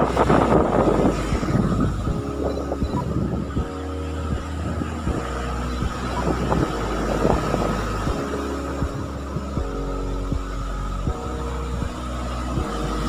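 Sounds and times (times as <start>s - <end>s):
waves breaking on beach: 0.0s - 13.0s
wind buffeting microphone: 0.0s - 13.0s.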